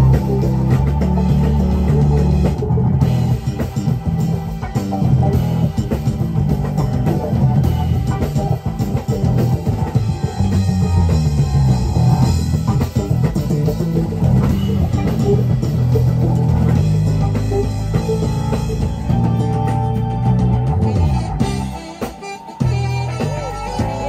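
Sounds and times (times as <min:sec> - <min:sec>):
electric bass line: 0:00.0 - 0:24.0
live band playing: 0:00.0 - 0:24.0.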